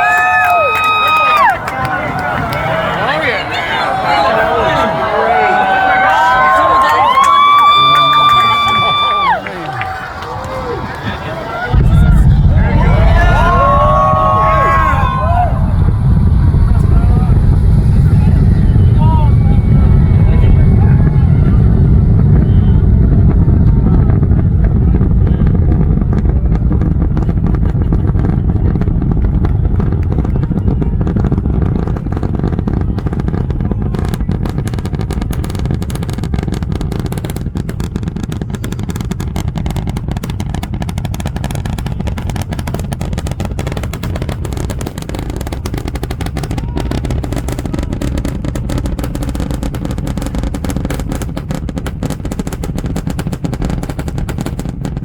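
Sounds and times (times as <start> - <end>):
rocket engines rumbling: 0.0 - 55.0
dense crackling: 4.4 - 55.0.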